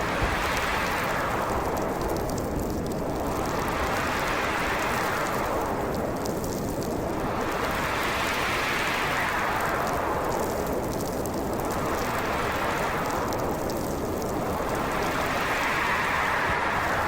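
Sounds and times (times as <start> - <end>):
faint crackling ticks: 0.0 - 17.0
howling storm wind: 0.0 - 17.0.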